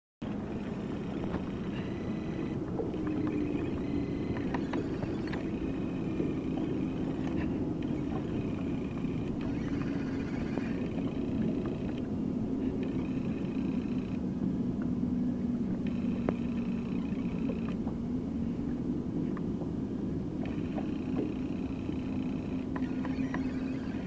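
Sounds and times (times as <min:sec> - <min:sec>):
boat motor running: 0:00.2 - 0:24.0.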